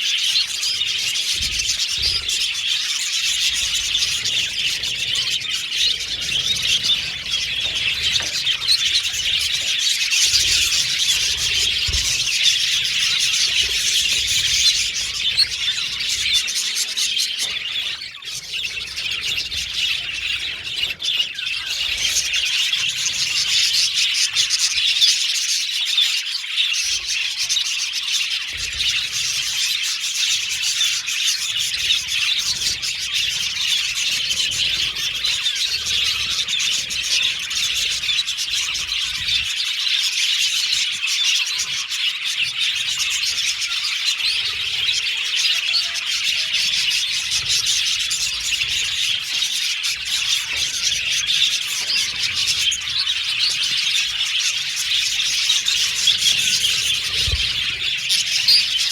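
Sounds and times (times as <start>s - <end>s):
budgerigars chattering and chirping: 0.0s - 58.9s.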